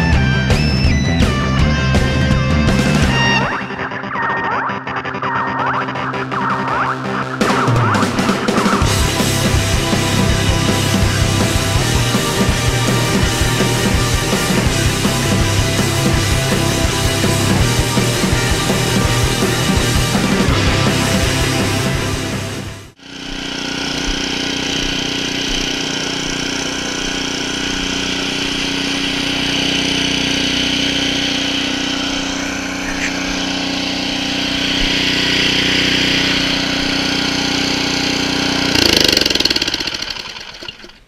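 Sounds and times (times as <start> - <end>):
snow blower engine running: 0.0 - 4.2, 5.7 - 41.0.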